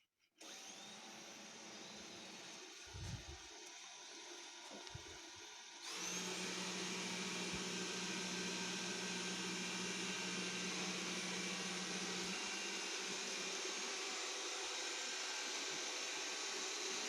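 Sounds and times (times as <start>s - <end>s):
robot vacuum fan humming: 0.4s - 17.0s.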